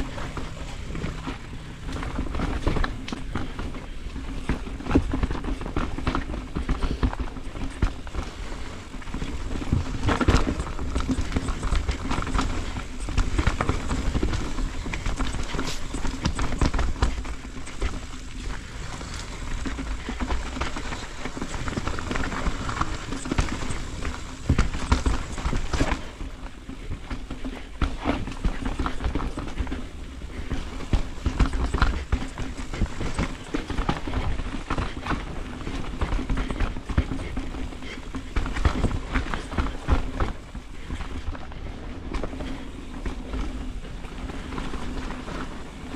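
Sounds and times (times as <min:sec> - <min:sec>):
bike rattling and knocking: 0:00.0 - 0:45.9
bike tyres rumbling on dirt: 0:00.0 - 0:45.9.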